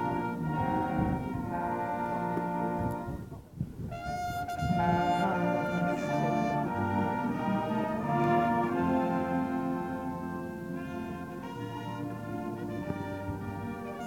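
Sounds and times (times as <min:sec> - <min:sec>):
brass band playing chords: 0:00.0 - 0:14.0.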